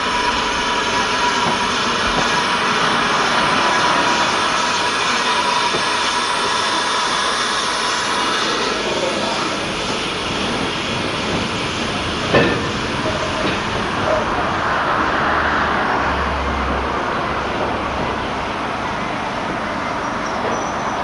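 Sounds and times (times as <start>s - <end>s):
train coaches rolling past: 0.0s - 21.0s.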